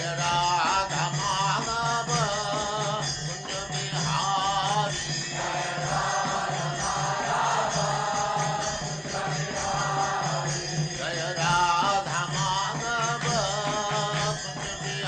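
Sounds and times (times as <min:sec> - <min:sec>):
devotional chanting: 0:00.0 - 0:15.0.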